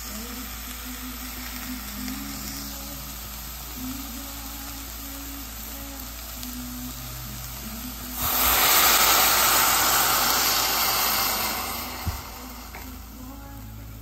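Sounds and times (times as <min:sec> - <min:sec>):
stock sizzling in hot pot: 0:00.0 - 0:14.0.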